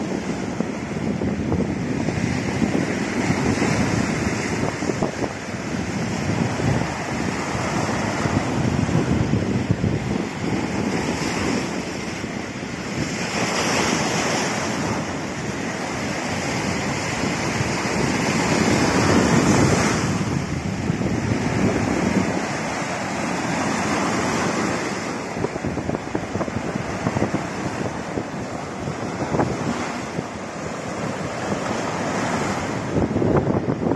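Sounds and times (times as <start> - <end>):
surf breaking over rocks: 0.0 - 33.9
wind buffeting microphone: 0.0 - 33.9.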